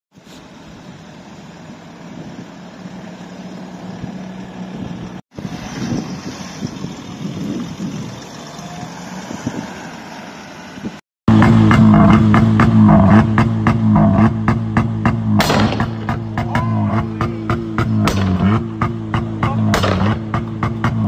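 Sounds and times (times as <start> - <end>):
car engine and exhaust rumble: 0.2 - 21.0.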